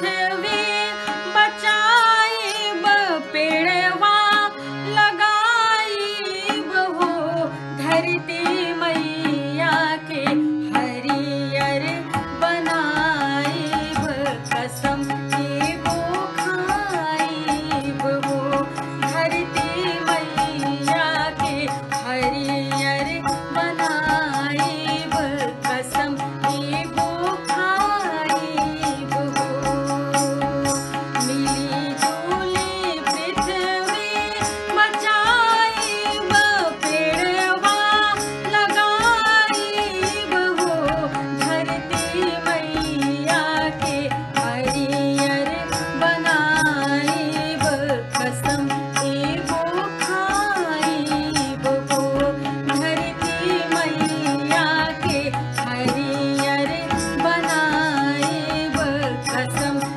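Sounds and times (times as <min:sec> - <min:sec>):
instrumental accompaniment: 0:00.0 - 0:59.9
woman singing folk song: 0:00.0 - 0:59.9.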